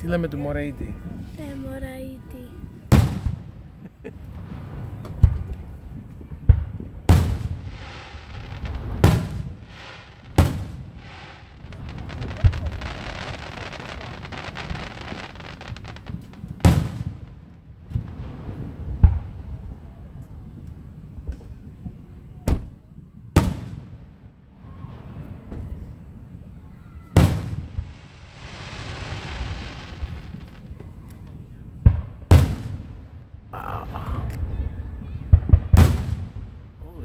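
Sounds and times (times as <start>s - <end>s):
fireworks crackling: 0.0s - 22.3s, 23.4s - 37.0s
fireworks bangs: 0.9s - 37.0s.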